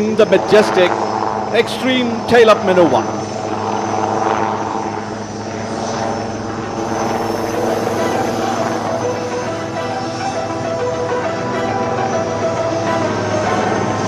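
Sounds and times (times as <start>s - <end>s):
helicopter rotor and engine noise: 0.0s - 14.0s.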